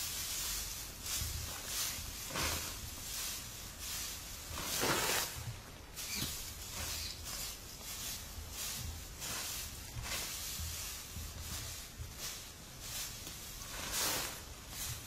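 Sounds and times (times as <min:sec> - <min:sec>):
dry straw rustling and crackling: 0:00.0 - 0:15.0.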